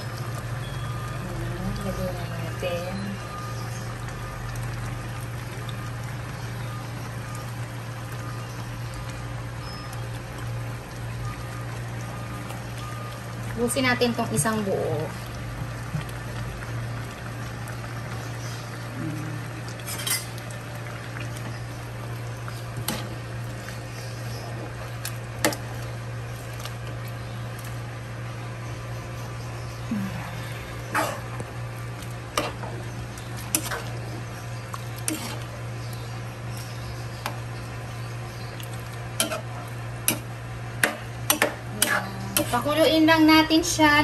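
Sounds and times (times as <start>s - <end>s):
liquid simmering: 0.0s - 43.6s
pan bubbling and hissing: 0.0s - 43.6s
low even hum: 0.0s - 44.0s.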